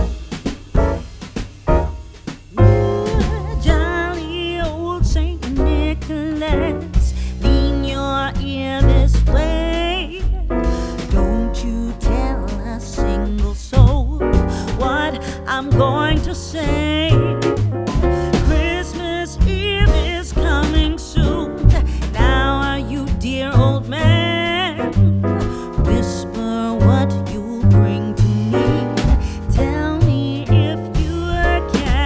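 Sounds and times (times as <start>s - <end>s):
piano: 0.0s - 32.0s
steady bass beat: 0.0s - 32.0s
soul song with singing: 2.6s - 32.0s.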